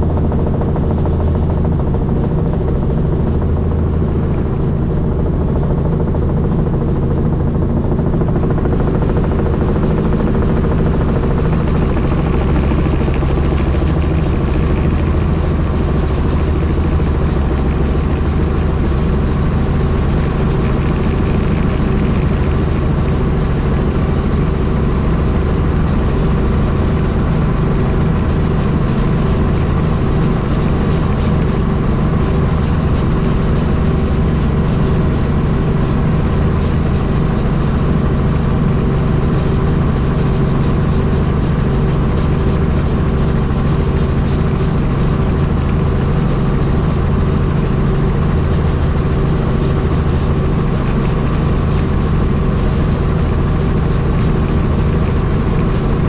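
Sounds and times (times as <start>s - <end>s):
helicopter in flight: 0.0s - 56.0s.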